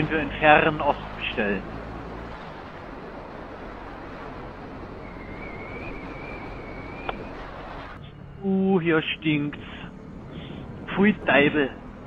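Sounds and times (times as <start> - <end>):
wind and road noise: 0.0 - 12.0
faint high wavering whine: 0.2 - 11.0.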